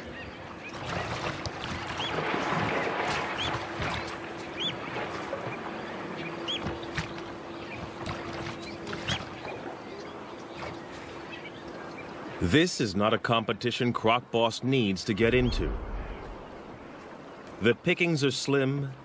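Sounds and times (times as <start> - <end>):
outdoor noise: 0.0 - 14.0, 14.6 - 18.3.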